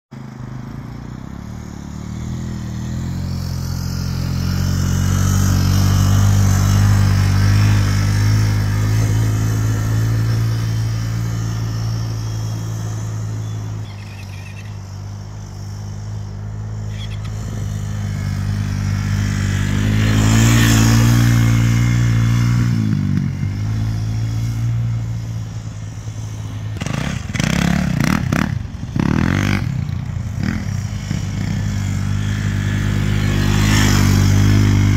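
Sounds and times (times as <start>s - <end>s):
small off-road engines running: 0.1s - 34.9s.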